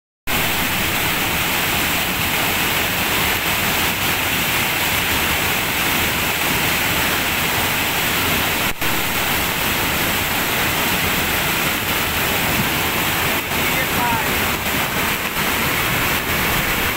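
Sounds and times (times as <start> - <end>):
floodwater rushing: 0.3 - 16.9.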